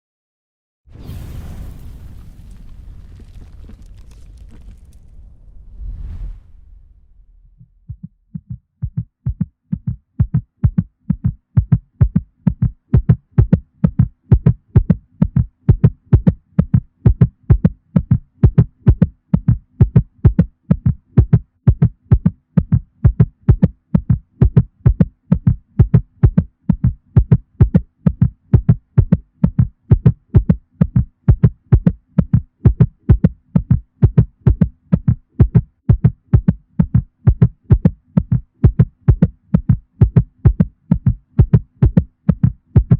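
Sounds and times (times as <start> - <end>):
heartbeat low beats: 7.2 - 42.9.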